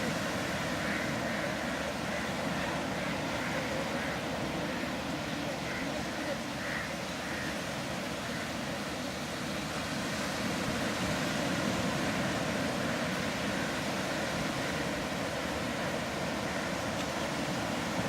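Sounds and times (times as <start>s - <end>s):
waves rushing: 0.0s - 18.0s.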